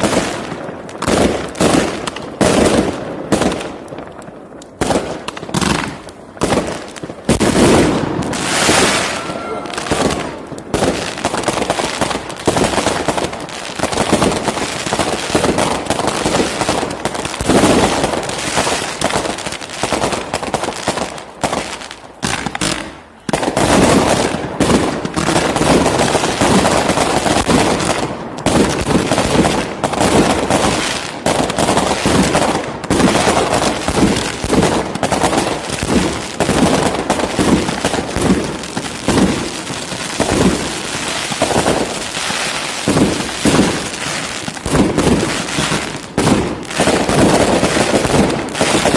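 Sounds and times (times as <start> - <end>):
fireworks launching and bursting: 0.0 - 48.9.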